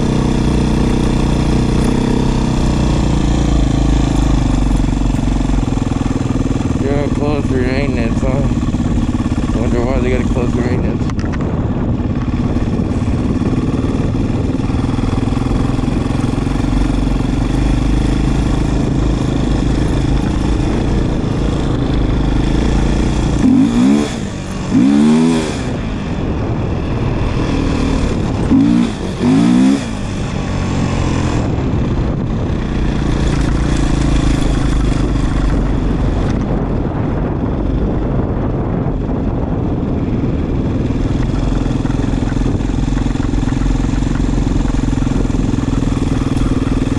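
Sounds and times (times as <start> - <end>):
dirt bike engine revving: 0.0 - 11.2, 11.8 - 37.3, 40.6 - 46.9
dirt bike engine running: 0.0 - 46.9.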